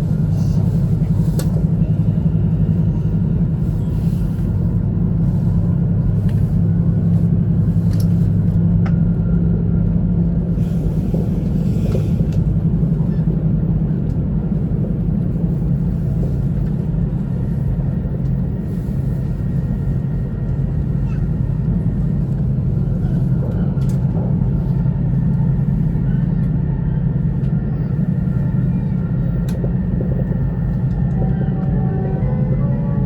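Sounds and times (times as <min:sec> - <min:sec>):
train cabin rumble: 0:00.0 - 0:33.0.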